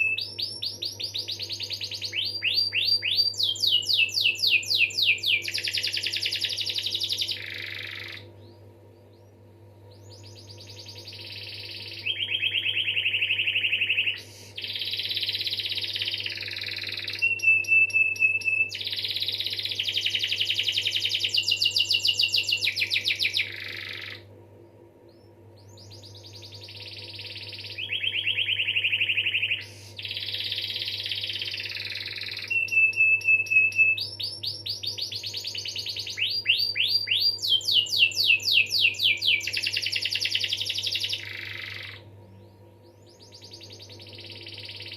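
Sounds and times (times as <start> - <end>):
canary singing trills: 0.0 - 24.3, 25.1 - 44.9.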